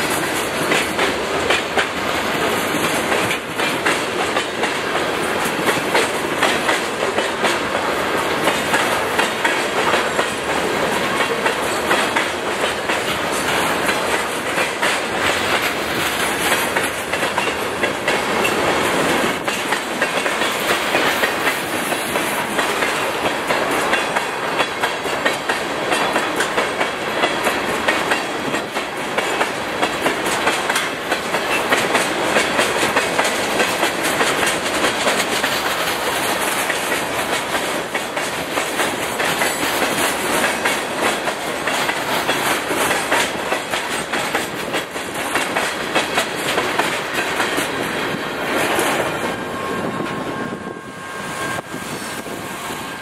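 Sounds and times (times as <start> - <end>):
wheels clicking over rail joints: 0.0 - 50.0
freight train rolling past: 0.0 - 53.0.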